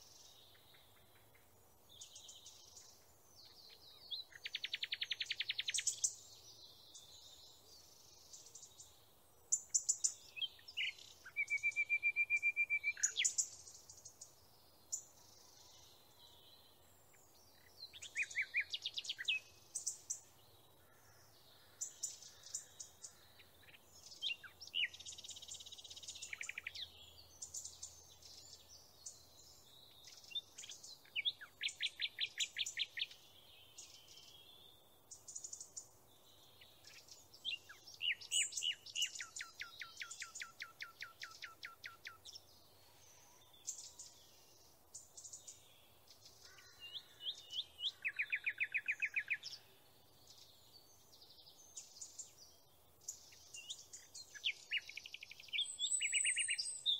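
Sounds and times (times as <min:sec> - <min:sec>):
songbird chirping and trilling: 0:00.0 - 0:56.9.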